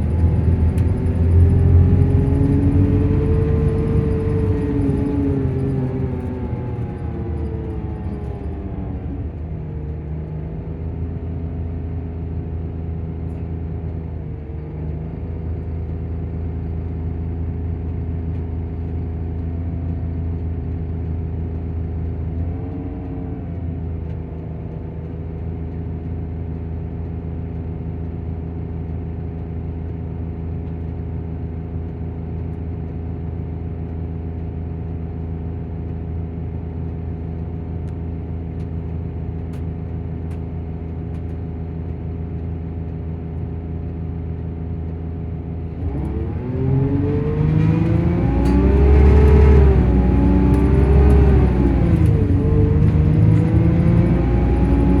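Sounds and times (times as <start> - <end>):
engine cooling fan whirring: 0.0 - 55.0.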